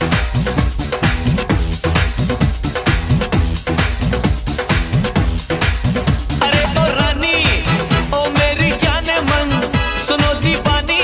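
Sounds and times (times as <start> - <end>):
fast drum beat: 0.0 - 11.0
upbeat electronic dance music: 0.0 - 11.0.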